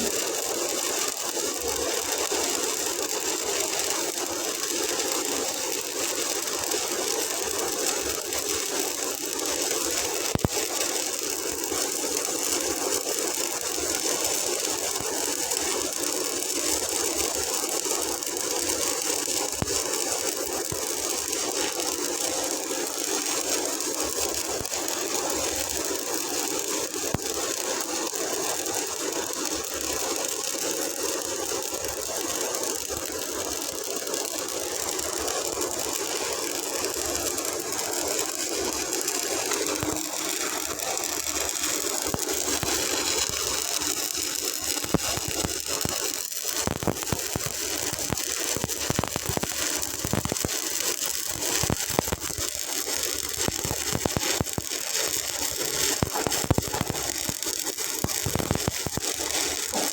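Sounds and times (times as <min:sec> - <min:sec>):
welding arc crackling and hissing: 0:00.0 - 0:59.9
welding pops and clicks: 0:00.0 - 0:59.9.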